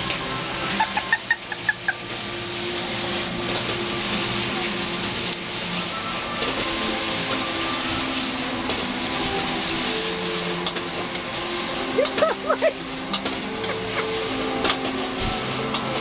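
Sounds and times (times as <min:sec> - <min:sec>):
gas burner roaring: 0:00.0 - 0:16.0
greens sizzling in a wok: 0:00.0 - 0:16.0
metal spatula scraping a wok: 0:01.9 - 0:16.0.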